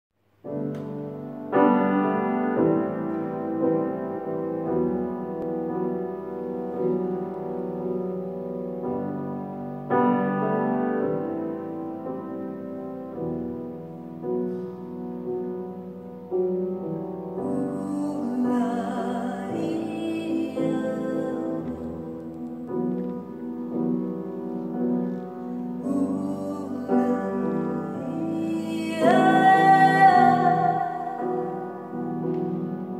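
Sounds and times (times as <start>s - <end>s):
grand piano chords: 0.2s - 32.9s.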